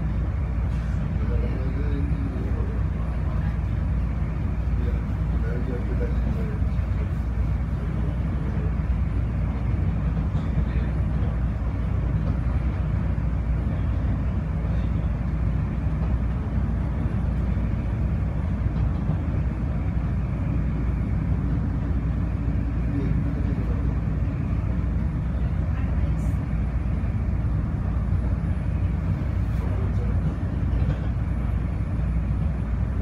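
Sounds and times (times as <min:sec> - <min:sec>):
train low rumble and hiss: 0:00.0 - 0:33.0.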